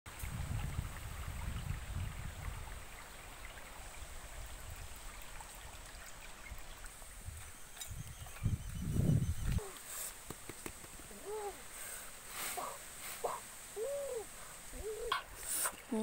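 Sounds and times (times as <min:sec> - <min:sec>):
stream running over rocks: 0:00.1 - 0:16.0.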